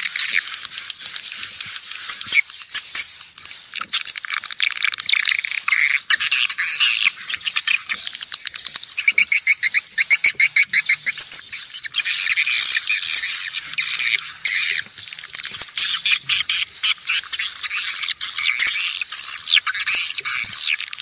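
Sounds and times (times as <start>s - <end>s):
swiftlets twittering: 0.0s - 21.0s.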